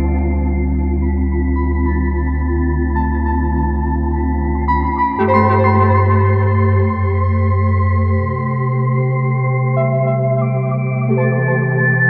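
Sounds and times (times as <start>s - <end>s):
slow relaxation music: 0.0s - 12.0s.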